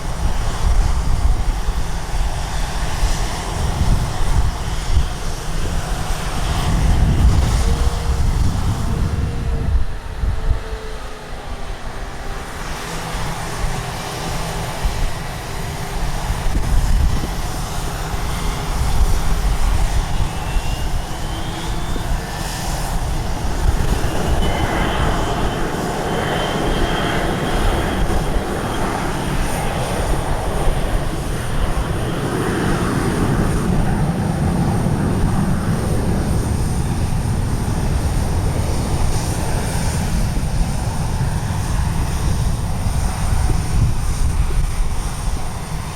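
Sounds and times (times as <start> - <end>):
jet aircraft engines: 0.0 - 45.9
wind rumble on microphone: 0.0 - 45.9.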